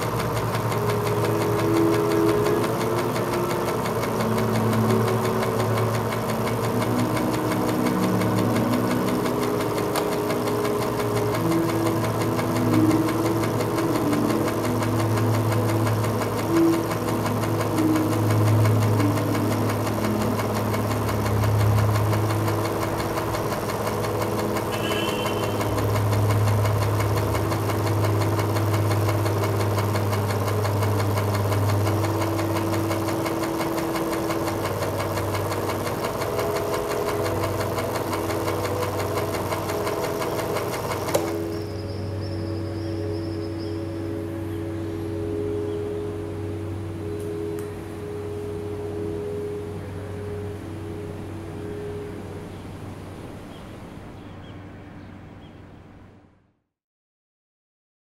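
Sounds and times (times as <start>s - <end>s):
higher held tones: 0.0s - 54.1s.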